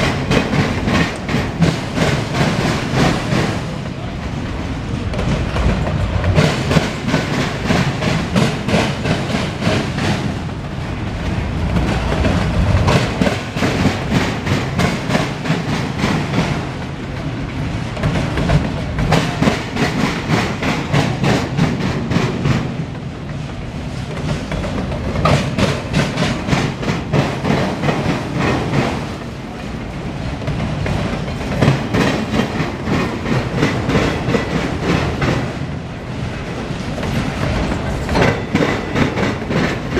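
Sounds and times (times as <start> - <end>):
freight train rumbling: 0.0 - 39.9
train wheels clicking over rail joints: 0.0 - 39.9.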